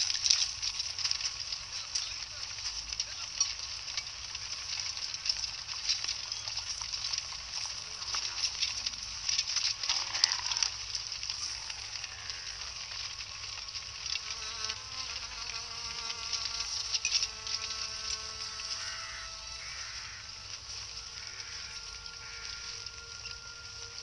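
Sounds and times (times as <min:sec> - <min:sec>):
crackling film hiss with ticks: 0:00.0 - 0:24.0
soft held music tones: 0:00.0 - 0:24.0.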